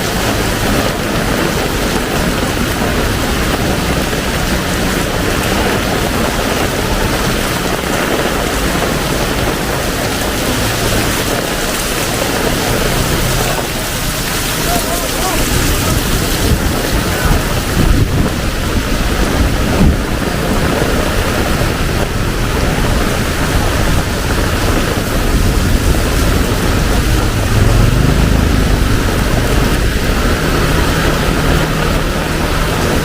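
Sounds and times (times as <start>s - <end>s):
deep rumble: 0.0s - 33.0s
heavy rain pouring: 0.0s - 33.0s.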